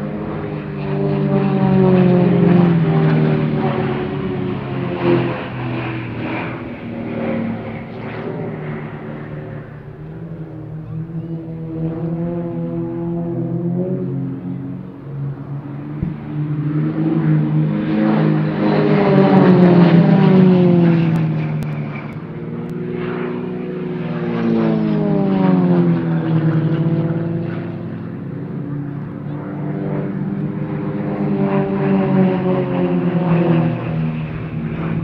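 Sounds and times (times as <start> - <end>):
propeller planes flying past: 0.0 - 35.0.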